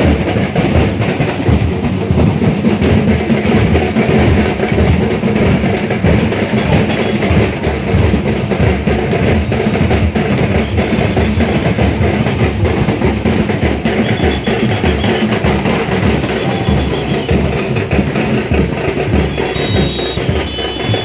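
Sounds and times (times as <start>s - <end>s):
loud drumming with driving beat: 0.0s - 21.0s.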